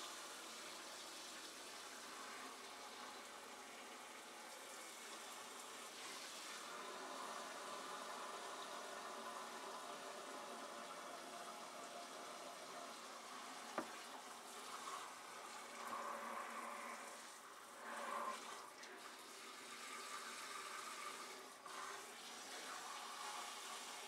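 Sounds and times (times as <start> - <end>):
faint running water from faucet: 0.0 - 24.0.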